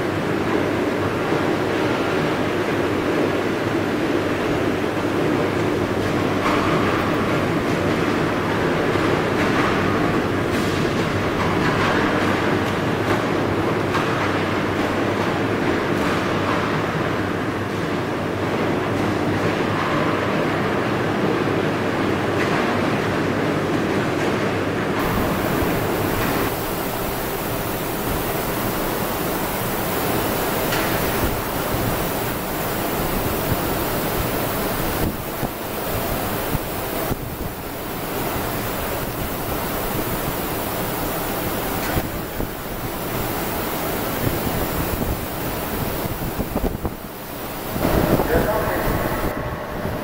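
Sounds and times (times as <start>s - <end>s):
electric arc furnace roaring: 0.0s - 50.0s.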